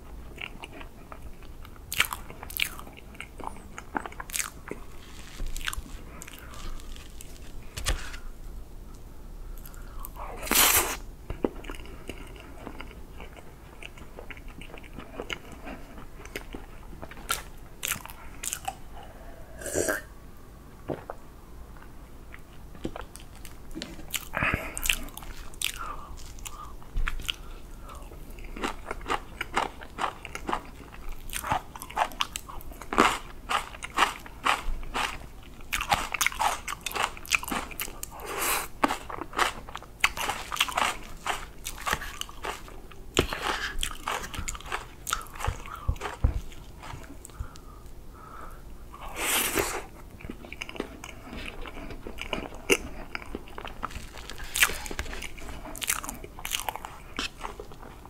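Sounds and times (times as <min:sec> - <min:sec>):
chewing and wet mouth sounds: 0:00.3 - 0:07.5, 0:11.3 - 0:18.9, 0:21.8 - 0:48.0, 0:49.5 - 0:58.0.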